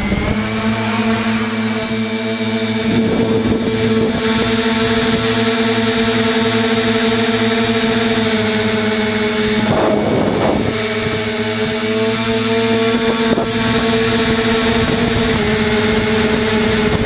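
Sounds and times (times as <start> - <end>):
drone motors and propellers whining: 0.0 - 17.0
noisy rush: 0.0 - 17.0.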